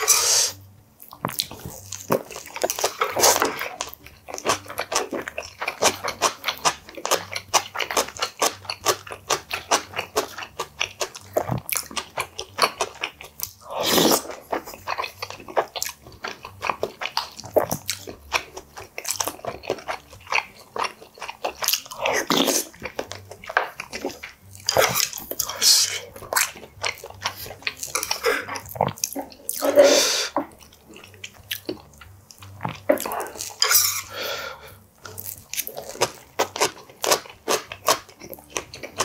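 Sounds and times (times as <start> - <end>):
man chewing food: 0.0 - 39.0.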